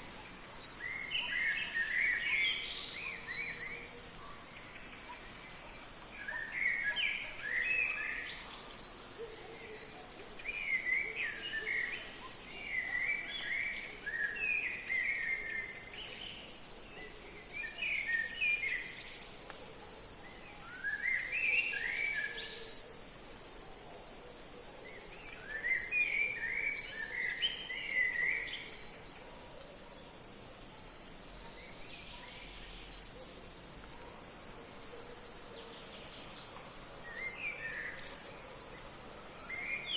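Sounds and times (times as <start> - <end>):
high pulsing insect call: 0.0 - 39.9.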